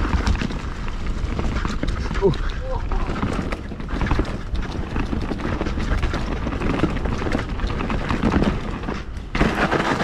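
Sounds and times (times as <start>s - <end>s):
bike rattling over bumps: 0.0s - 10.0s
bike tyres on dirt: 0.0s - 10.0s
wind rumble on microphone: 0.0s - 10.0s.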